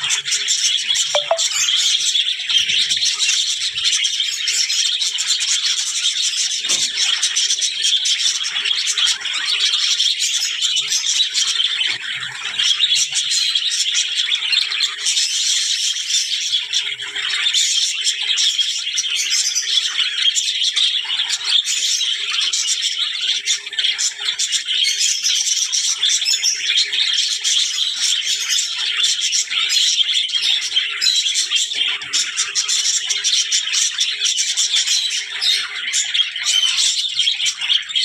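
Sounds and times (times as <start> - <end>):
budgerigars chattering: 0.0 - 38.0.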